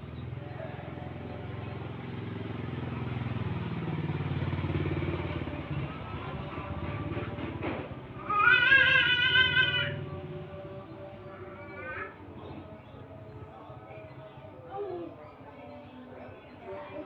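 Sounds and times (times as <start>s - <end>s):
passing vehicle engine: 0.0s - 17.0s.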